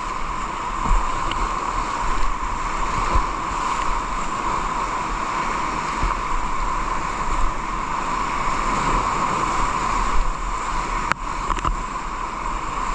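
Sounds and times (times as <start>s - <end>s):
rushing water: 0.0s - 12.9s
wind rumbling on microphone: 0.0s - 12.9s.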